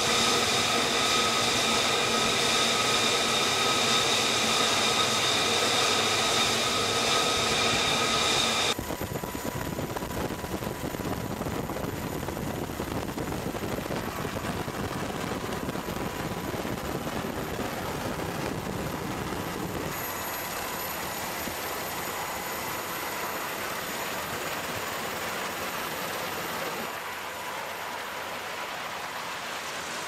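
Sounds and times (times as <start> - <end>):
jet turbine whine: 0.0 - 30.0.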